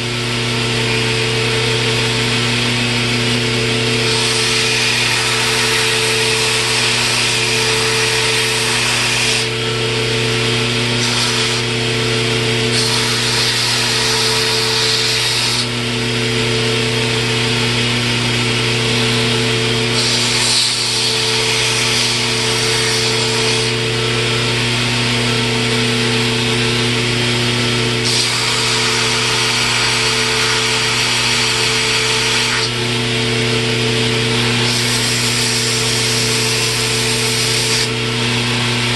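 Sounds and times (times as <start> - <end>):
motor hum: 0.0 - 38.9
power tool grinding wood: 0.0 - 38.9.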